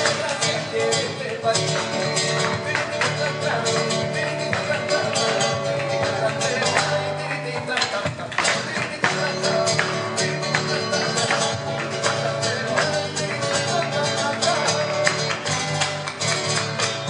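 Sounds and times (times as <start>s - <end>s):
flamenco acoustic guitar: 0.0s - 17.0s
rhythmic hand claps: 0.0s - 17.0s.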